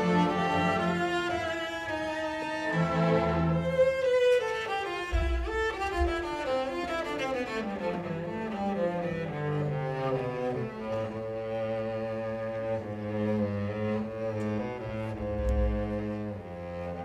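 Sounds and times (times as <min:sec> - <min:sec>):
solo cello: 0:00.0 - 0:17.0
string orchestra playing: 0:00.0 - 0:17.0.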